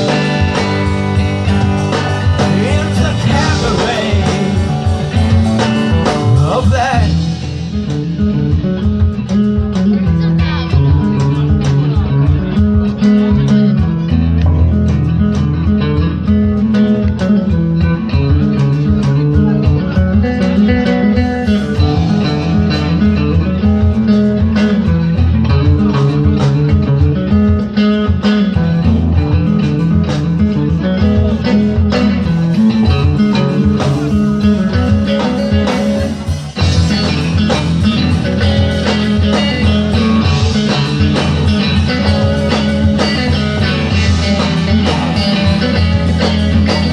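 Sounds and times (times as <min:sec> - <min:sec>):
live blues-rock band: 0:00.0 - 0:46.9.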